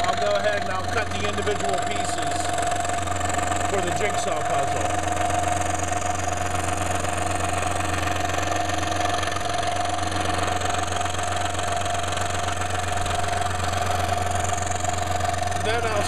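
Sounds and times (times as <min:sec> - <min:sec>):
power saw cutting wood: 0:00.0 - 0:16.0.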